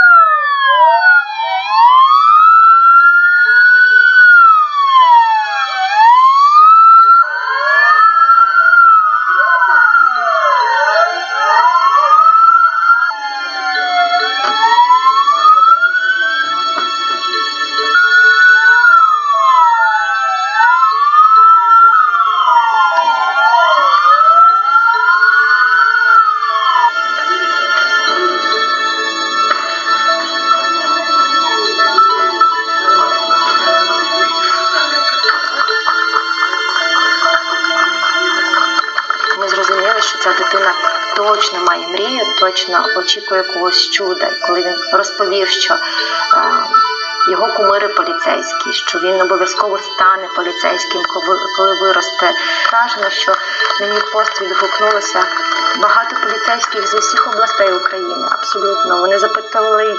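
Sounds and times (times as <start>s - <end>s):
police sirens wailing: 0.0s - 59.9s
steady music: 1.5s - 59.9s.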